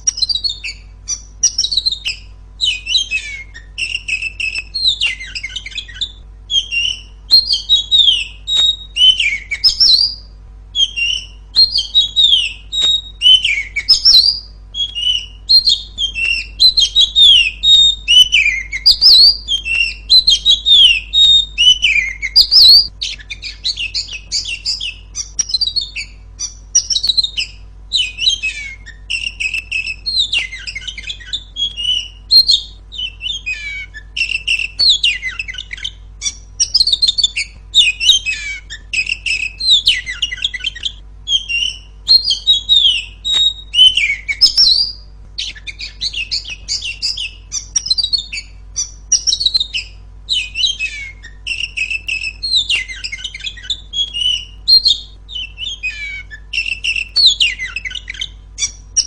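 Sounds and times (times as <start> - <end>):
bird singing whistled song: 0.0 - 59.0.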